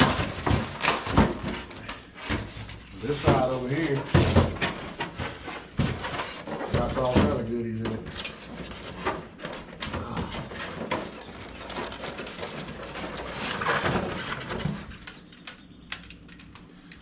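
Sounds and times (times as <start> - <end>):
cardboard packaging rustling: 0.0 - 16.5.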